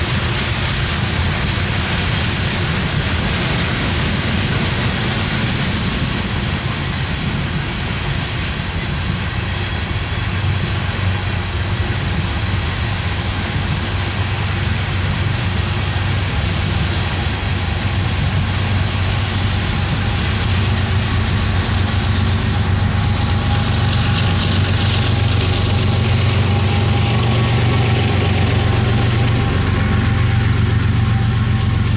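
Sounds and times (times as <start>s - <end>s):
low diesel hum: 0.0s - 31.9s
train wheels on rails: 0.0s - 31.9s.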